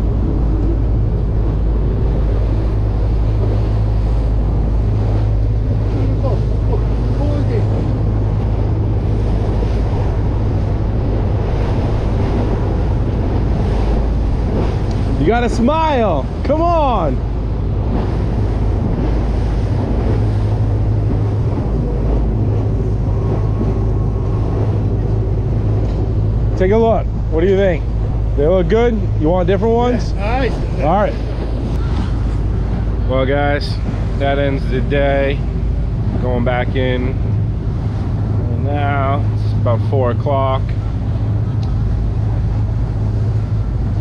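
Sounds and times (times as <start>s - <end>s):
boat engine droning: 0.0s - 44.0s
sea noise: 0.0s - 44.0s
wind noise on microphone: 0.0s - 44.0s.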